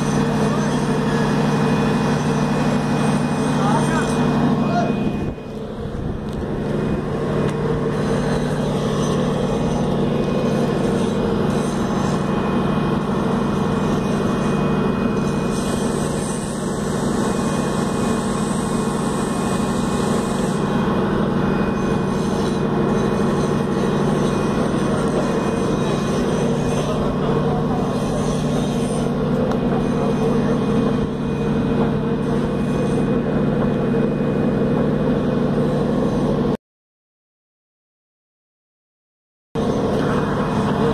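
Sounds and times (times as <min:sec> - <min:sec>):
loud machinery drone: 0:00.0 - 0:36.6, 0:39.6 - 0:40.9.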